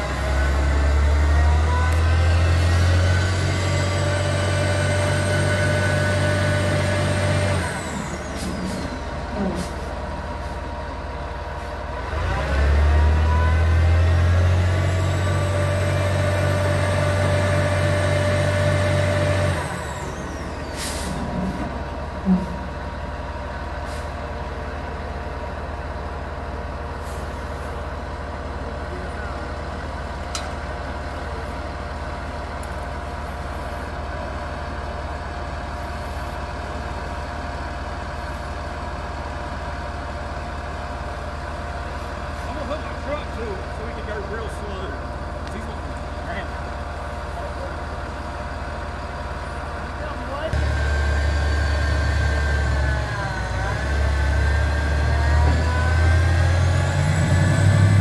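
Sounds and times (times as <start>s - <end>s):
truck engine under heavy load: 0.0s - 58.0s.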